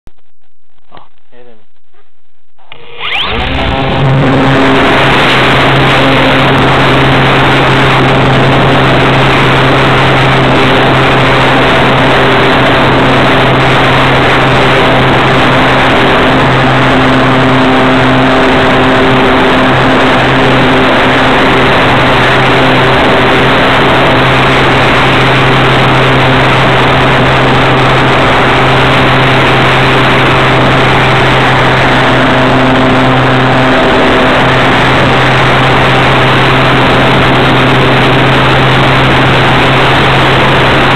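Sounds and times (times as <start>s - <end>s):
model aircraft motor and propeller: 2.7s - 40.9s.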